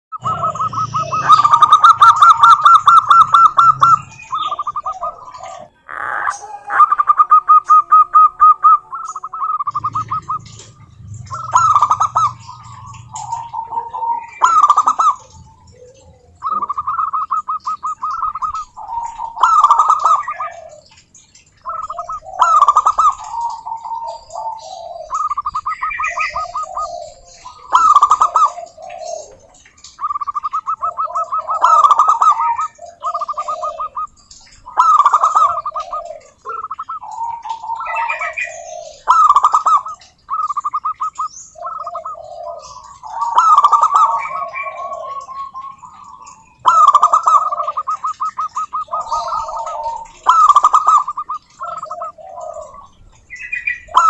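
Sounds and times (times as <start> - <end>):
doves trilling coos: 0.1 - 54.0.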